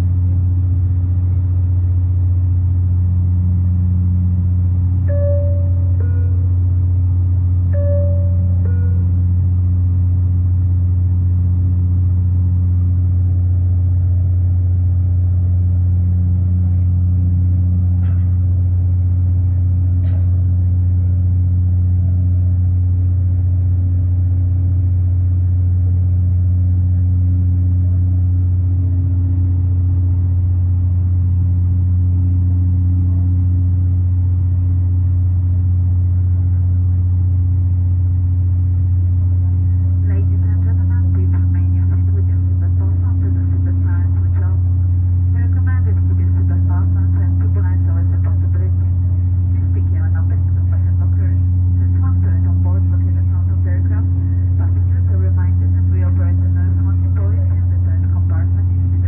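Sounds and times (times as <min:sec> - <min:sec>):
propeller and engine hum: 0:00.0 - 0:59.0.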